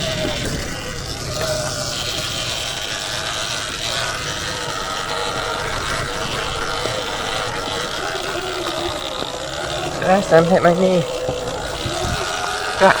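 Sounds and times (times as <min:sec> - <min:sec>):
electric motor whine: 0:00.0 - 0:13.0
wind and ride noise: 0:00.0 - 0:13.0.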